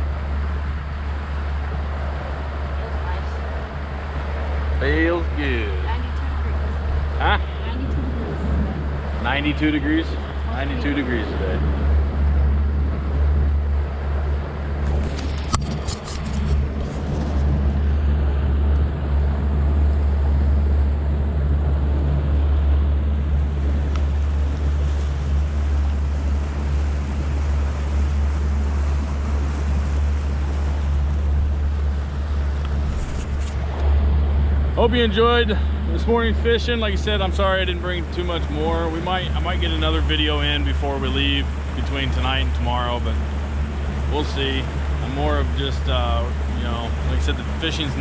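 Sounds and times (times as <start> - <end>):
outboard motor rumble: 0.0 - 48.0
water rushing along hull: 0.0 - 48.0
wind buffeting microphone: 0.0 - 48.0.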